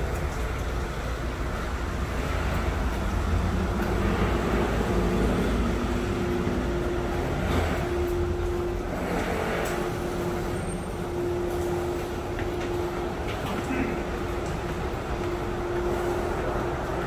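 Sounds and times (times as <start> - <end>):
engine hum: 0.0 - 17.0
road traffic rumble: 0.0 - 17.0.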